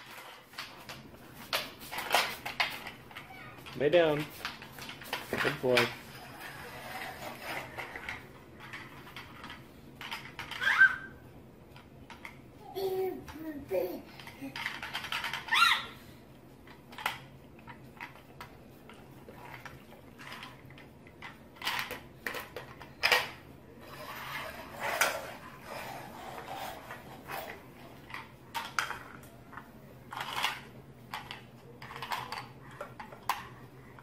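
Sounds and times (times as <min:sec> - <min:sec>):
plastic toys clattering on wood: 0:00.0 - 0:11.0, 0:13.2 - 0:15.7, 0:16.7 - 0:34.0.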